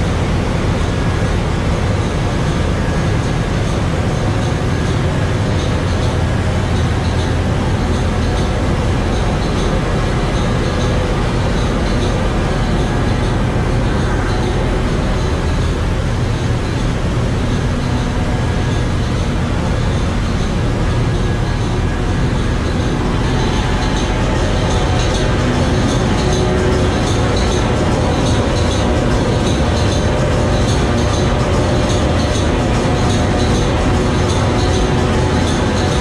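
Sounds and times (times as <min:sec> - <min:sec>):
ship engine room machinery rumble: 0:00.0 - 0:36.0.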